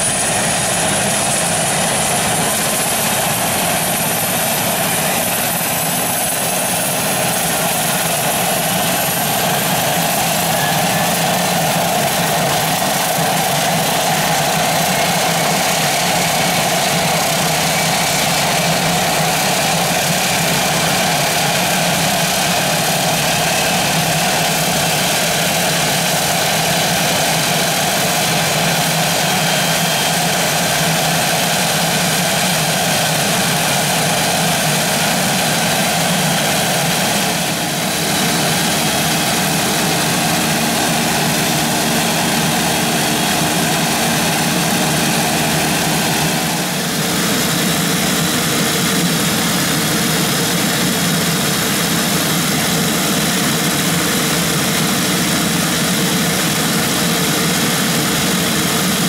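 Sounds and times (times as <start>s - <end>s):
turboprop engines idling: 0.0s - 59.0s.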